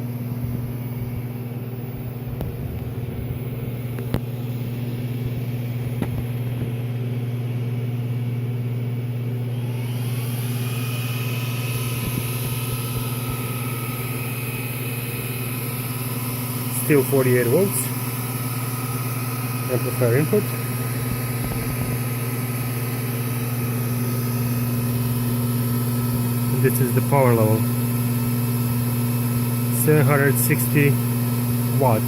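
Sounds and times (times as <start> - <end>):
electrical hum: 0.0 - 32.0
fan noise: 0.0 - 32.0
rising whine: 0.0 - 32.0.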